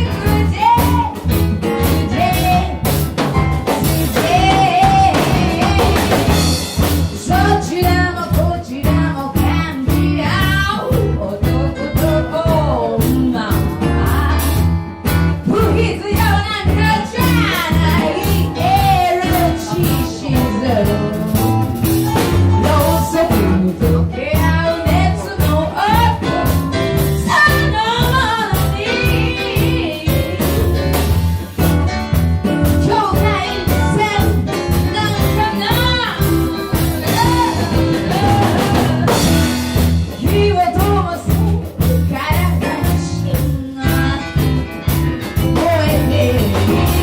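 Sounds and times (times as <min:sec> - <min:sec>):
song with lead vocal and band: 0:00.0 - 0:47.0.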